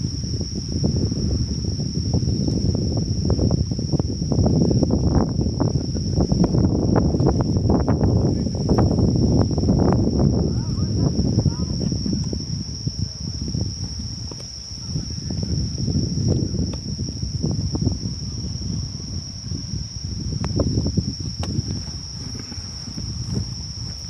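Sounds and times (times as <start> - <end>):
insects trilling: 0.0 - 24.0
low rumbling: 0.0 - 24.0.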